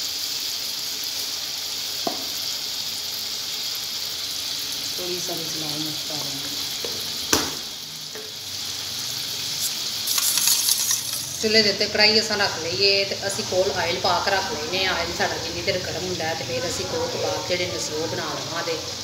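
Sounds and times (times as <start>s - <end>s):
steady sizzling hiss: 0.0s - 19.0s.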